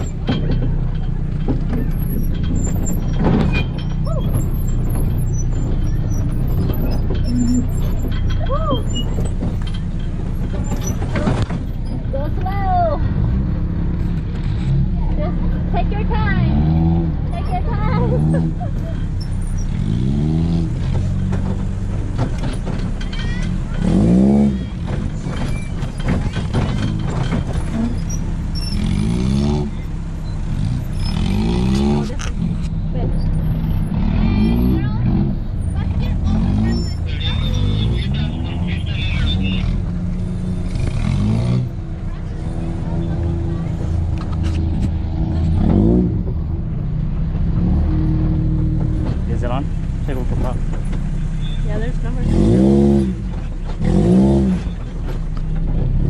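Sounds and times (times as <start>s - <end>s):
buggy engine running: 0.0s - 56.0s.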